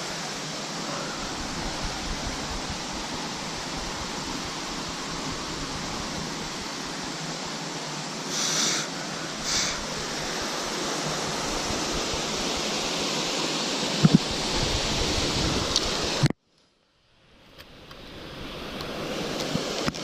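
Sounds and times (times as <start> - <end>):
hissy swells: 0.0 - 16.3
waterfall rushing: 0.0 - 16.3.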